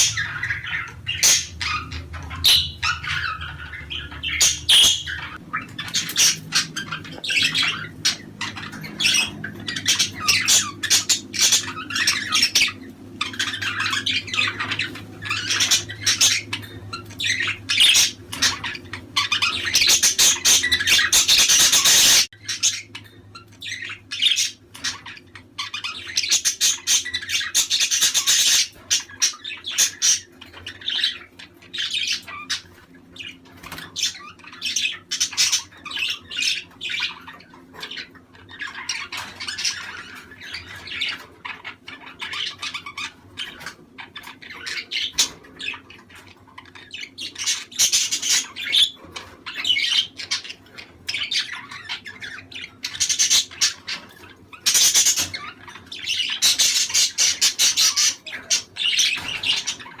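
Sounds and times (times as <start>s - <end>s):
budgerigars chattering and squawking: 0.0s - 60.0s.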